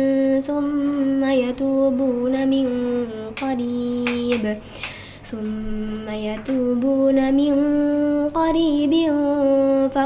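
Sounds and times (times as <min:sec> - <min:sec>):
woman reciting melodically: 0:00.0 - 0:10.0.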